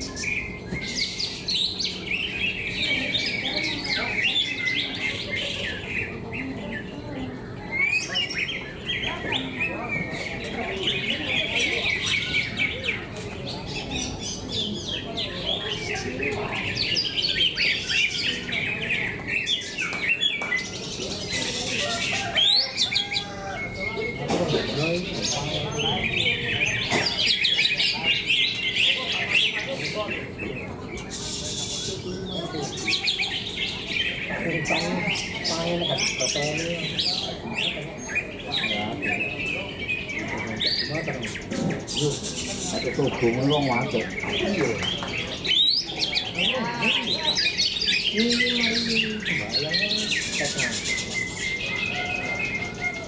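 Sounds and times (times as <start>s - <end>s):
birds singing: 0.0s - 53.0s
low background murmur: 0.0s - 53.0s.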